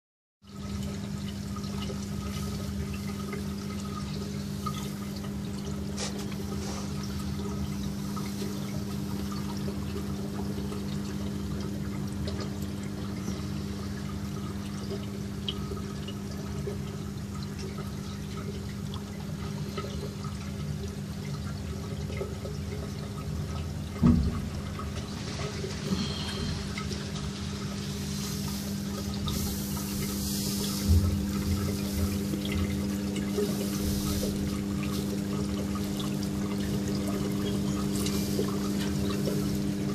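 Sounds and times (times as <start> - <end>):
water pouring and trickling: 0.4 - 39.9
constant low hum: 0.5 - 39.9.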